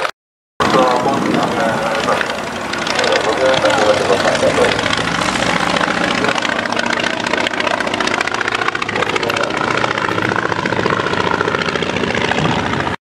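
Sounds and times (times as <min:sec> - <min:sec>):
biplane radial engine drone: 0:00.6 - 0:13.0.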